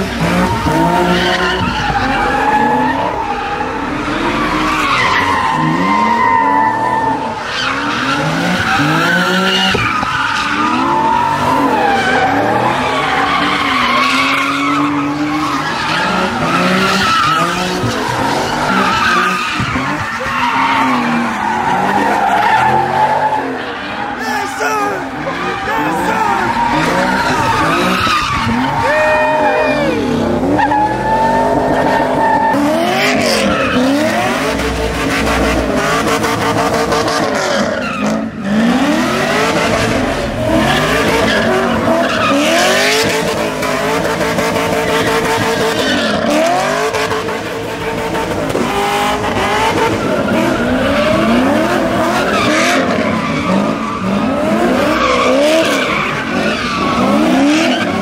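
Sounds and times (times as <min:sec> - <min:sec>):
car engines revving: 0:00.0 - 0:58.0
tires squealing: 0:00.0 - 0:58.0.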